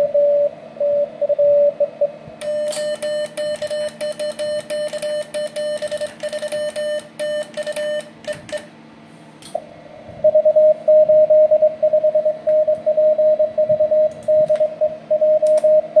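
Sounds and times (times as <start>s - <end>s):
morse code tone: 0.0s - 8.6s, 10.3s - 16.0s.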